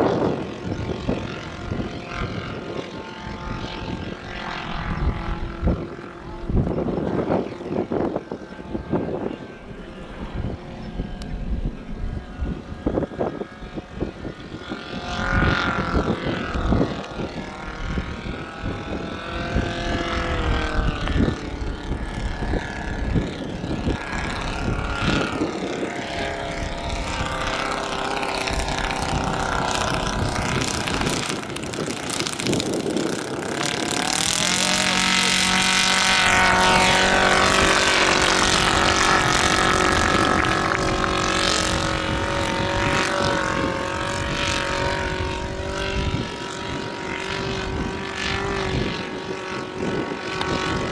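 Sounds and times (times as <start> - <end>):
model aircraft engine running: 0.0 - 50.9
wind rumble on microphone: 0.0 - 50.9.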